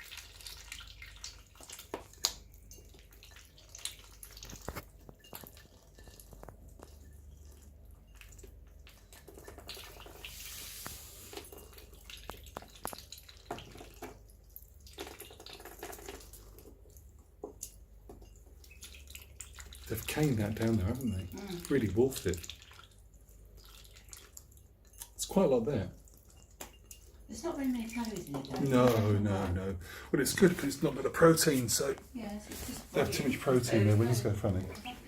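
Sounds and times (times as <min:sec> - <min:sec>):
ducklings dabbling and pecking: 0:00.0 - 0:29.0.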